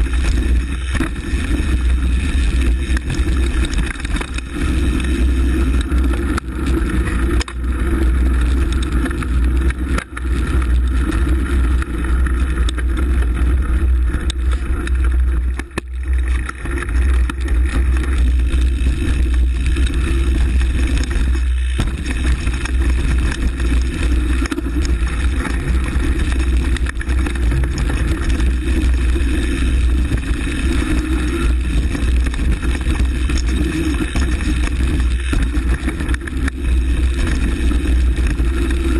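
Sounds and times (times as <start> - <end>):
bike knocks and rattles: 0.0 - 38.9
tyres rolling over gravel: 0.0 - 38.9.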